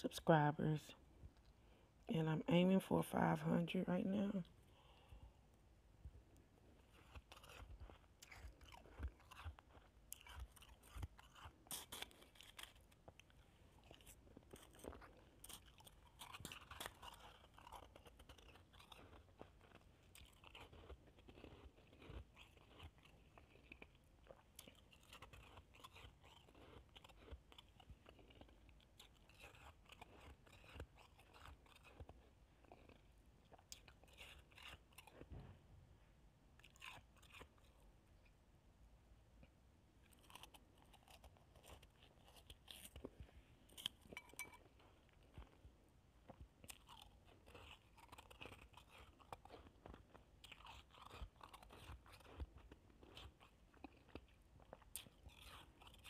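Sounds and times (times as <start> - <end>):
ice being chewed: 6.6 - 35.4, 36.6 - 38.3, 40.0 - 56.0.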